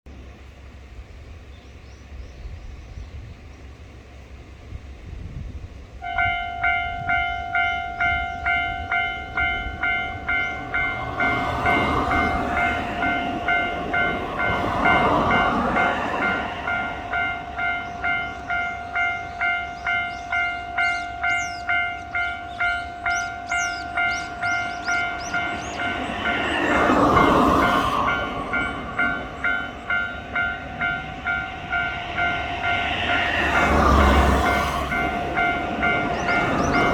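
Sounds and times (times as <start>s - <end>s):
train rumbling: 0.1s - 36.9s
level crossing alarm ringing: 6.0s - 36.9s.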